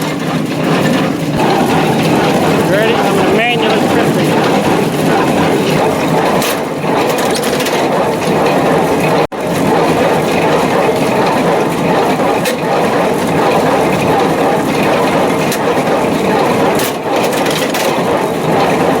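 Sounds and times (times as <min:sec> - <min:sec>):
baler mechanical clatter: 0:00.0 - 0:19.0.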